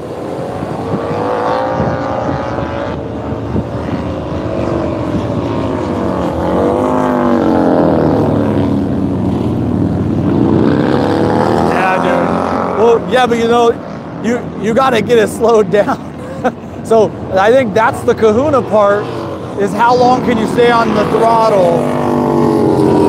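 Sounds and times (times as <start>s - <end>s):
motorcycles braking and accelerating: 0.0s - 23.0s.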